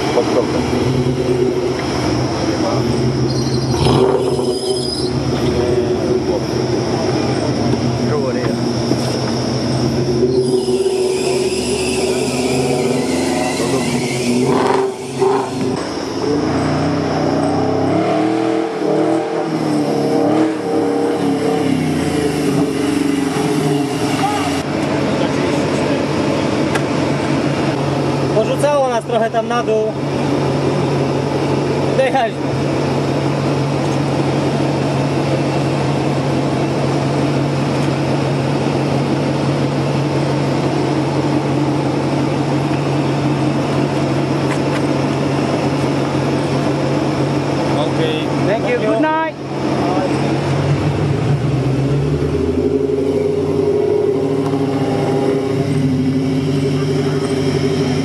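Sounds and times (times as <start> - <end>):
engine revving: 0.0 - 27.9, 39.3 - 58.0.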